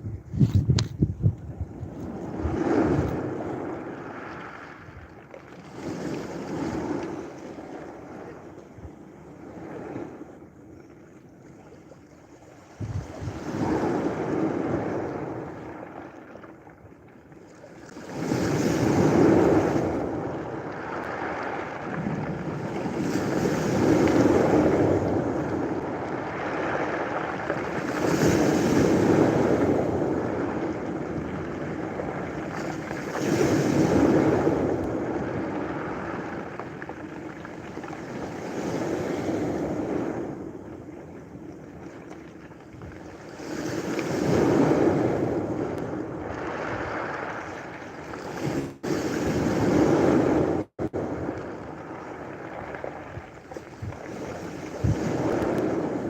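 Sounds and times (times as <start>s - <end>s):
ocean waves breaking on beach: 1.5s - 56.0s.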